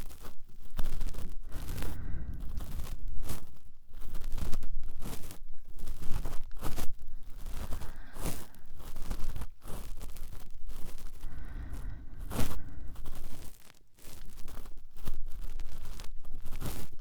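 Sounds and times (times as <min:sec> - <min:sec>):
cotton swab scraping microphone: 0:00.0 - 0:17.0.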